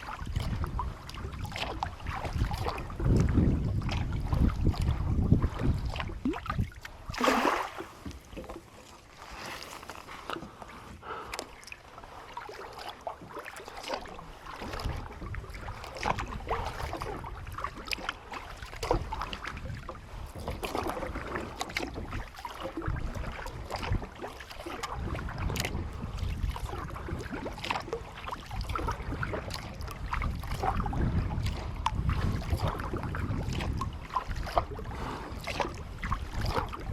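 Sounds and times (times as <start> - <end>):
wind rumble on microphone: 0.0 - 8.6, 13.9 - 36.9
paddle splashing in water: 0.0 - 36.9.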